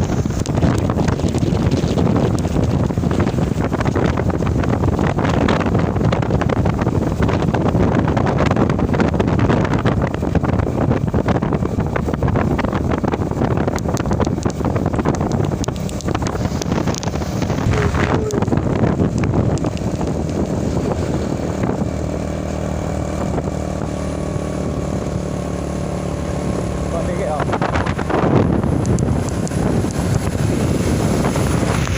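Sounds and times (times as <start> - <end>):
truck engine and road noise: 0.0 - 31.9
wind noise on microphone: 0.0 - 31.9.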